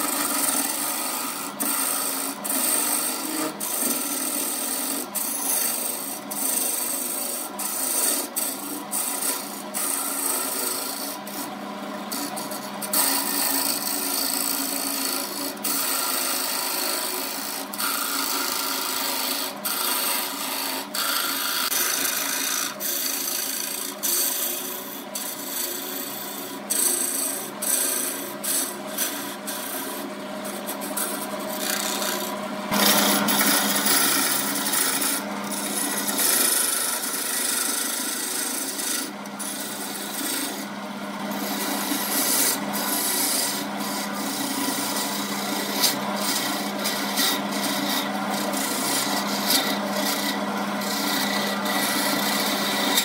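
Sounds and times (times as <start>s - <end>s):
lathe humming: 0.0s - 53.0s
turning tool scraping wood: 0.0s - 53.0s.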